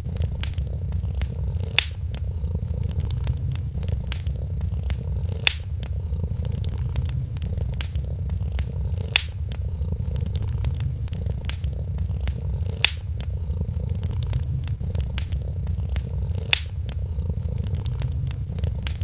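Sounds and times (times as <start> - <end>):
cat purring: 0.0 - 19.0
wood fire crackling and popping: 0.0 - 19.0.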